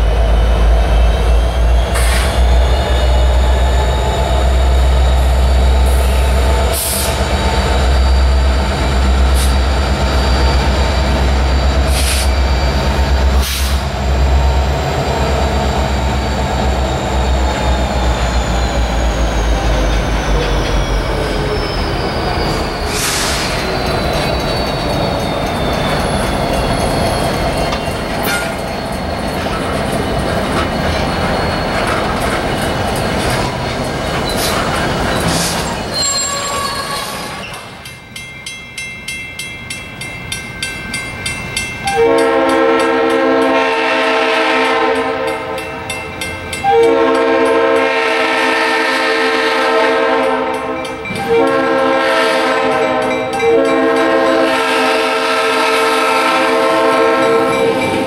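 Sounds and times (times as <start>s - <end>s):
diesel locomotive engine drone: 0.0s - 58.0s
train wheel squeal: 0.0s - 58.0s.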